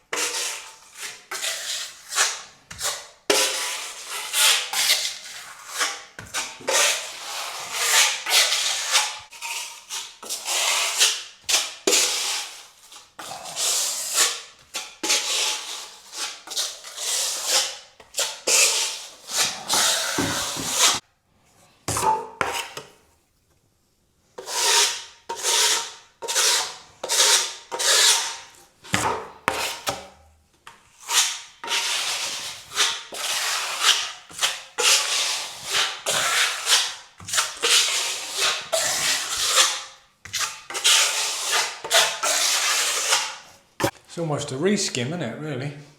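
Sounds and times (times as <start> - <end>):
filling knife scraping wall: 0.1 - 21.0, 24.4 - 30.0, 30.9 - 44.0.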